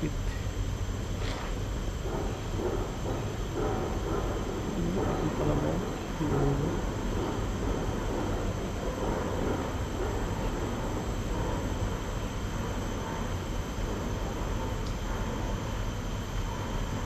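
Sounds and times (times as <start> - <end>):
faint steady high hum: 0.0 - 17.0.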